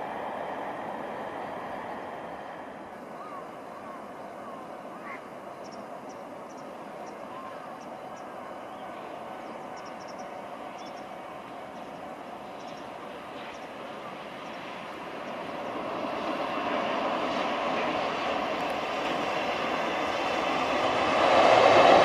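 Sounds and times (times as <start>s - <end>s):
freight train rumble: 0.0s - 22.0s.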